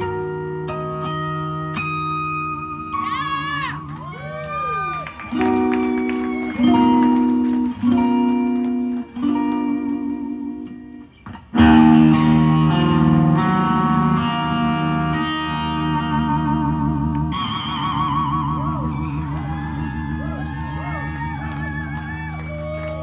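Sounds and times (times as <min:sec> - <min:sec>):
electric guitar blues chords: 0:00.0 - 0:23.0.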